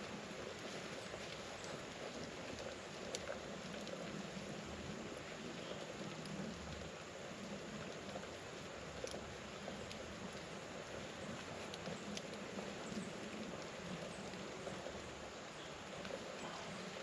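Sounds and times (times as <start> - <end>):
water boiling in a pot: 0.0 - 17.0.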